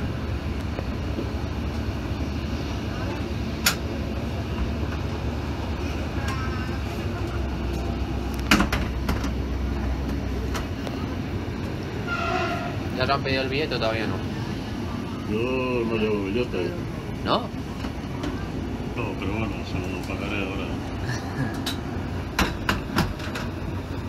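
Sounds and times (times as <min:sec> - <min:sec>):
train clacking and clanking: 0:00.0 - 0:14.3, 0:17.4 - 0:24.0
train rumbling: 0:00.0 - 0:24.0.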